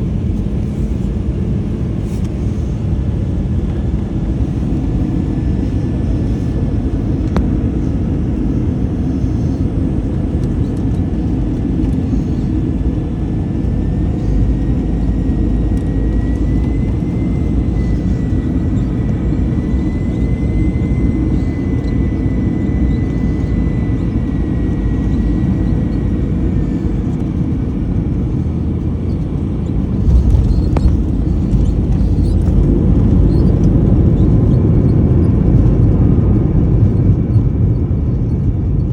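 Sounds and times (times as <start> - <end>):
airliner cabin rumble: 0.0 - 38.9
high engine whine: 0.0 - 38.9.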